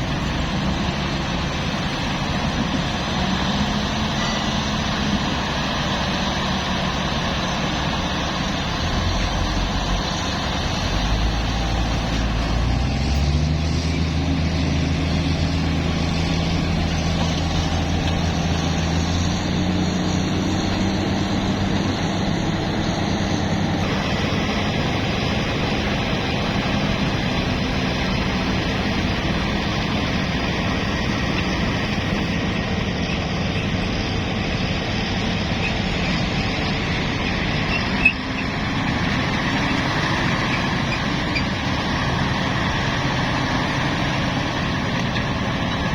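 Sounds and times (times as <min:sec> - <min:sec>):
heavy truck engine revving: 0:00.0 - 0:45.9.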